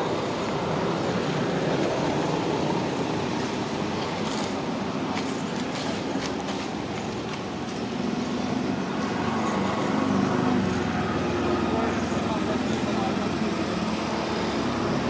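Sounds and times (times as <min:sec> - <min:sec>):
steady vehicle noise: 0:00.0 - 0:15.0.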